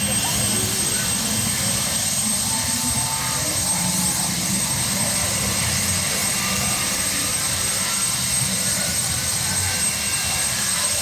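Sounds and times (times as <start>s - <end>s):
helicopter turbine whine and rumble: 0.0s - 11.0s.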